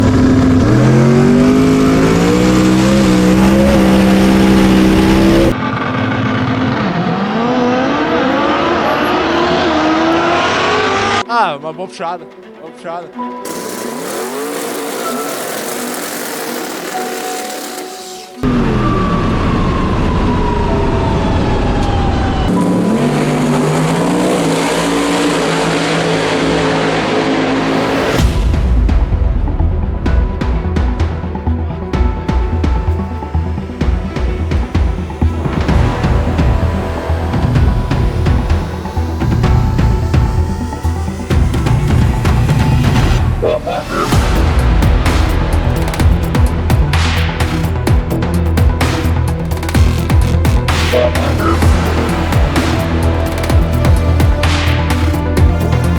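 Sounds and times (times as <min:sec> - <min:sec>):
drag racing car accelerating: 0:00.0 - 0:11.2, 0:13.4 - 0:28.8, 0:33.7 - 0:55.9.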